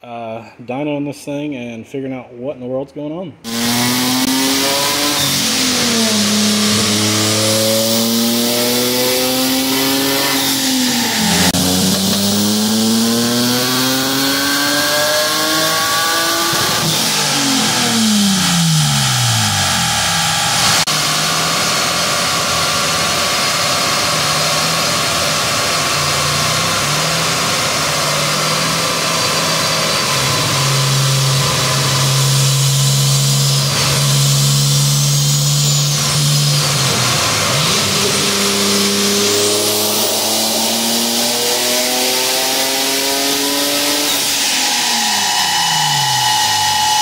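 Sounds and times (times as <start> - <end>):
car engine revving on dyno: 3.5 - 47.0.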